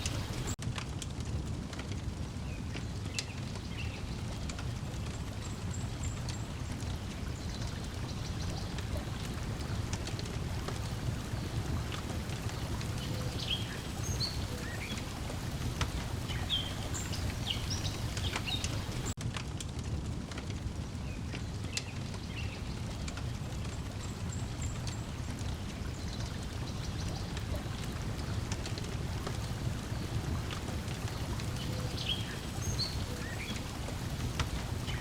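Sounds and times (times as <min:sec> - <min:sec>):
water and breeze: 0:00.0 - 0:35.0
wood fire crackling: 0:00.0 - 0:35.0.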